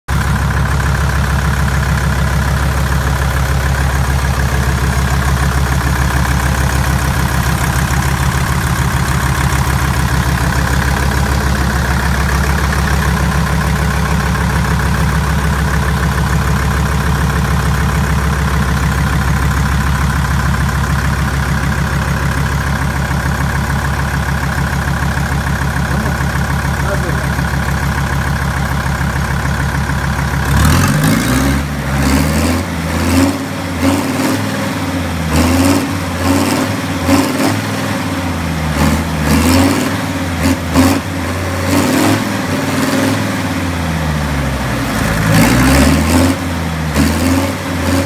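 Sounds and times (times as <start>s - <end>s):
diesel engine idling: 0.1s - 48.0s.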